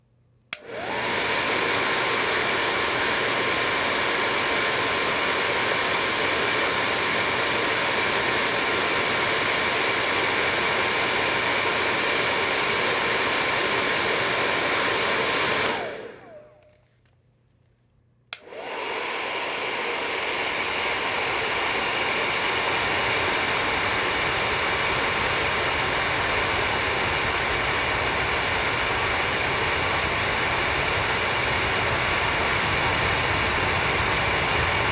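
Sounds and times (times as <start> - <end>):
hair dryer blowing: 0.5 - 16.8, 18.3 - 34.9.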